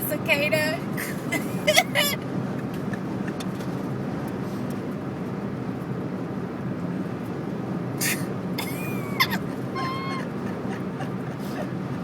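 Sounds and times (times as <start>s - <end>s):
road and wind rumble in car: 0.0s - 12.0s.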